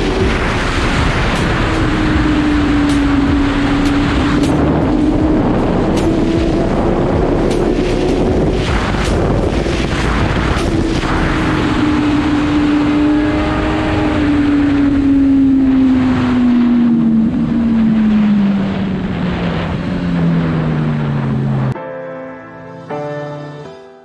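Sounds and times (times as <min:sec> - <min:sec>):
motorcycle engine decelerating: 0:00.0 - 0:21.8
wind buffeting microphone: 0:00.0 - 0:21.8.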